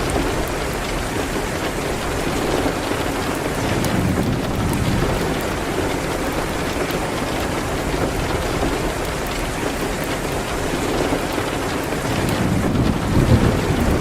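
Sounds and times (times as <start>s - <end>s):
rain falling on a window: 0.0s - 14.0s.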